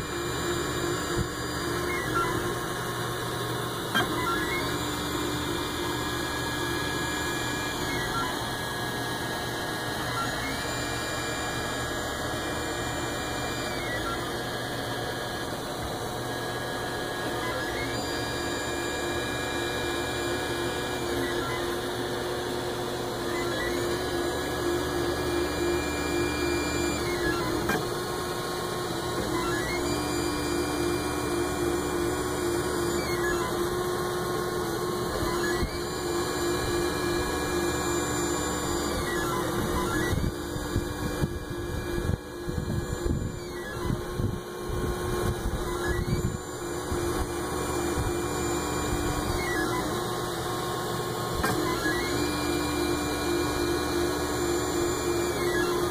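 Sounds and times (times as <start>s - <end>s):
stepper motors whining: 0.0s - 55.9s.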